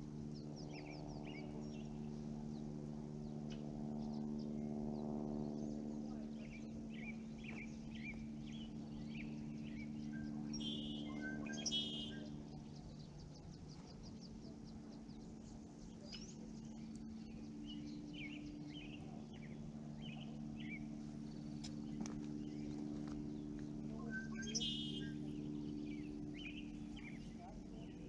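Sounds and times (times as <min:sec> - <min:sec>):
low hum: 0:00.0 - 0:28.0
small birds chirping: 0:00.3 - 0:28.0.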